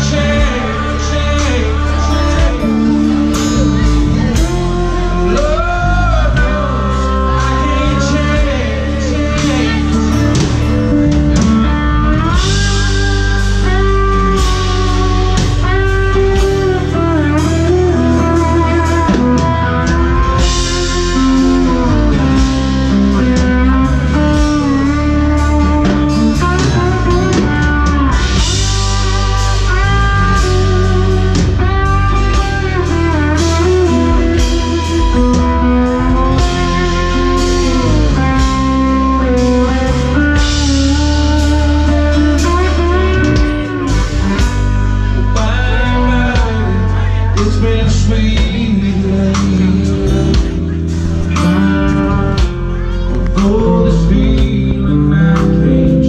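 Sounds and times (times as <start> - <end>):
blues-rock band music: 0.0 - 56.0
electric guitar lead: 0.0 - 56.0.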